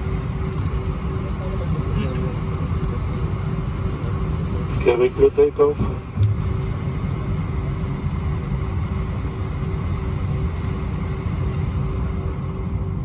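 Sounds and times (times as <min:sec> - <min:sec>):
aircraft cabin engine rumble: 0:00.0 - 0:13.0
faint constant hum: 0:00.0 - 0:13.0.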